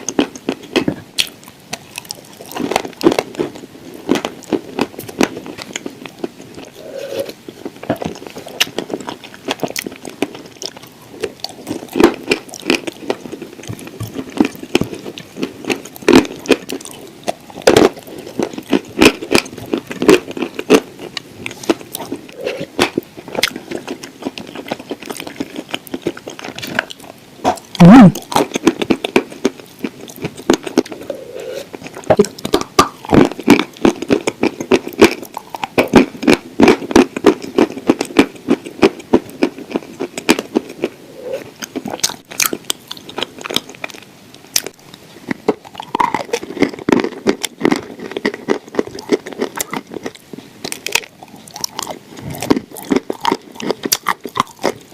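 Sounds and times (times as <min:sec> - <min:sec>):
cookies crunching while chewed: 0:00.0 - 0:54.9.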